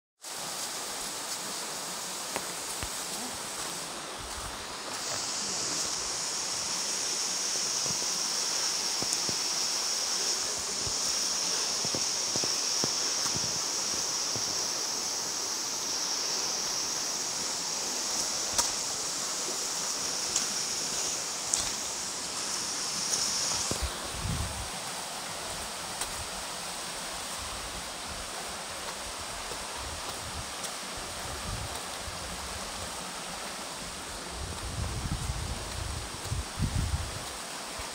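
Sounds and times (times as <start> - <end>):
waterfall rushing: 0.2 - 37.9.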